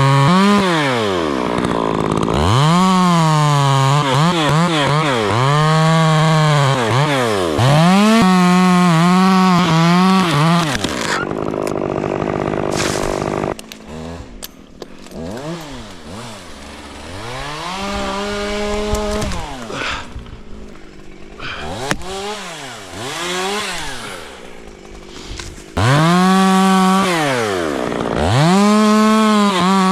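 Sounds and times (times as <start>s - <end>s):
chainsaw revving and cutting: 0.0s - 29.9s.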